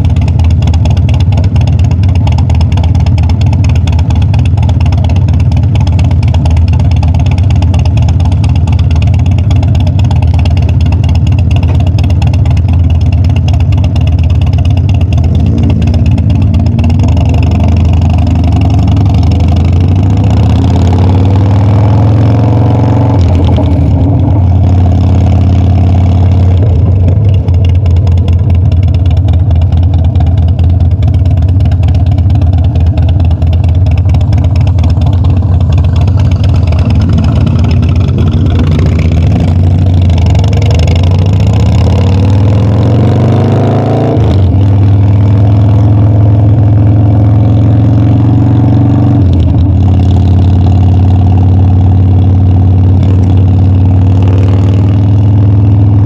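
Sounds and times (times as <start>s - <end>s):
motorcycle engine on the road: 0.0s - 56.0s.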